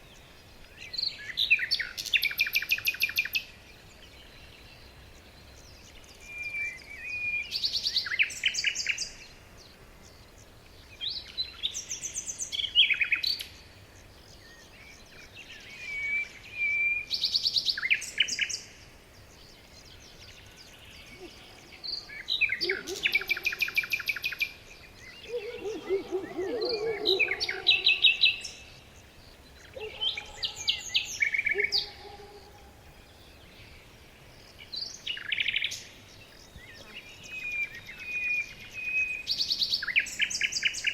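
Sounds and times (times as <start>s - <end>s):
songbirds trilling and chirping: 0.0s - 40.9s.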